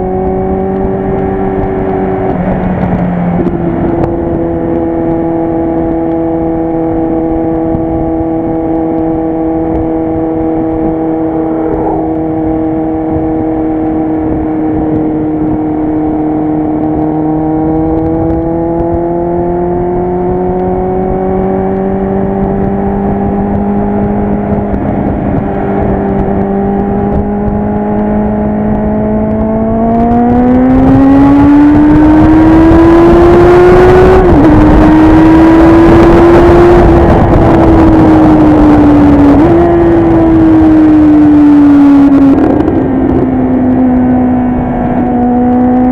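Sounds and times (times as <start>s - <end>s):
motorcycle engine revving: 0.0s - 45.9s
wind noise on microphone: 0.0s - 45.9s.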